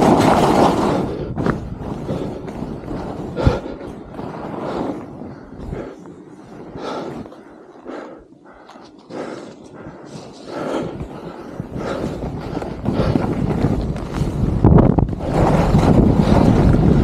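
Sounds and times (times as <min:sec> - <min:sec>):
skis scraping on packed snow: 0:00.0 - 0:07.2, 0:08.8 - 0:17.0.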